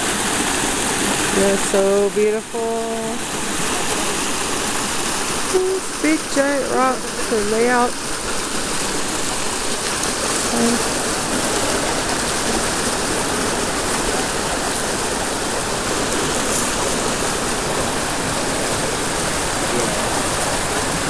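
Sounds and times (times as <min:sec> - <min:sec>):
fast-flowing river rushing: 0:00.0 - 0:21.0.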